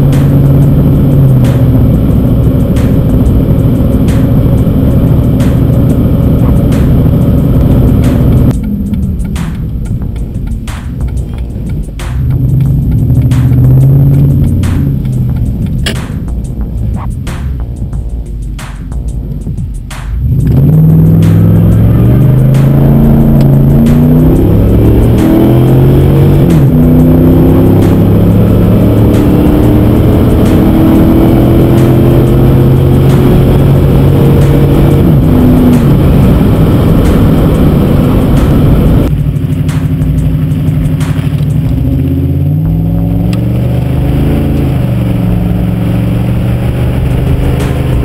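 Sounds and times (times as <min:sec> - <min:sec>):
road and tyre noise: 0:00.0 - 0:48.0
truck engine droning: 0:00.0 - 0:48.0.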